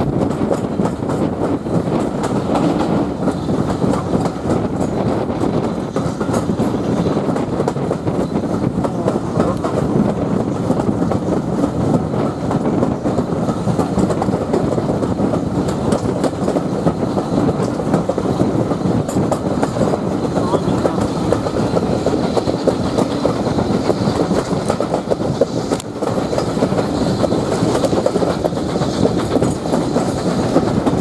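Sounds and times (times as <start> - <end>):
clattering over the track: 0.0 - 31.0
train wheels rumbling on rail: 0.0 - 31.0.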